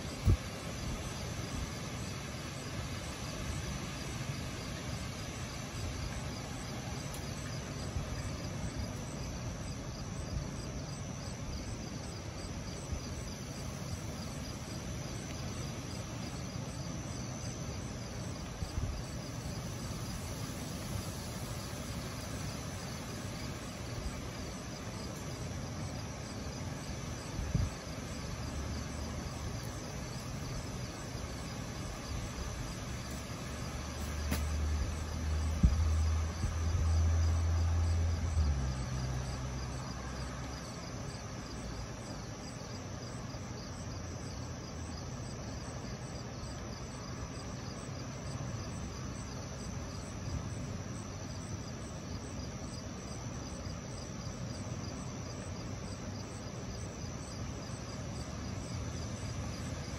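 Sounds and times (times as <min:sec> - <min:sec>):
low outdoor rumble: 0:00.0 - 0:59.9
night insects chirping: 0:00.0 - 0:59.9.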